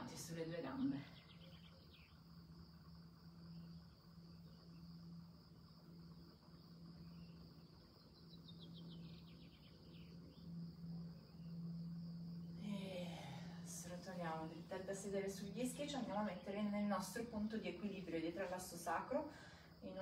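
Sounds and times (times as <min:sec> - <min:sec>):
crickets chirring: 0:00.0 - 0:20.0
low steady hum: 0:00.0 - 0:20.0.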